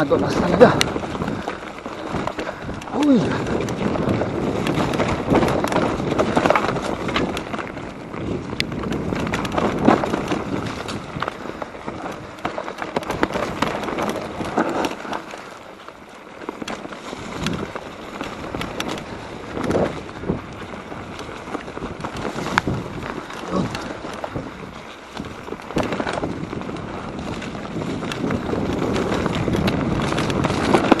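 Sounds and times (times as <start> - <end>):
wind on microphone: 0.0 - 15.7, 16.5 - 31.0
bike rattling and knocking: 0.0 - 31.0
bike tyre noise on dirt: 0.0 - 31.0.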